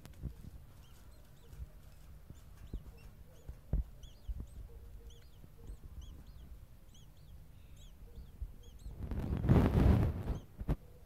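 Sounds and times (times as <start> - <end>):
starling chicks cheeping: 0.0 - 10.7.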